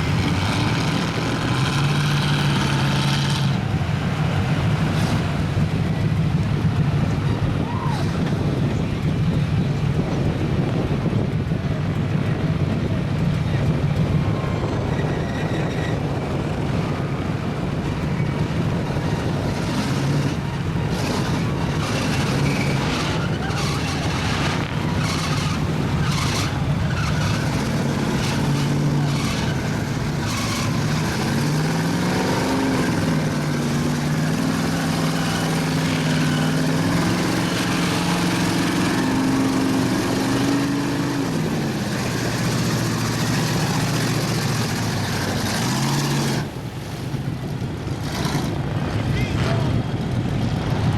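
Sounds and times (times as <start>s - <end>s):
truck engine revving: 0.0s - 50.9s.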